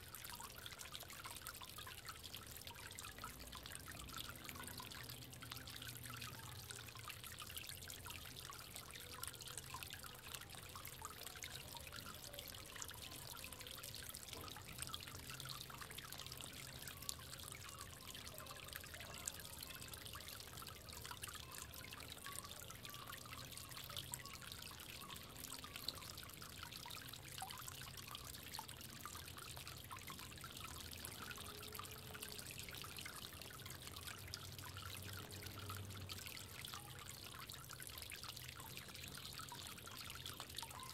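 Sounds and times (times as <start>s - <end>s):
drips and small splashes: 0.0s - 40.9s
water trickling: 0.0s - 40.9s.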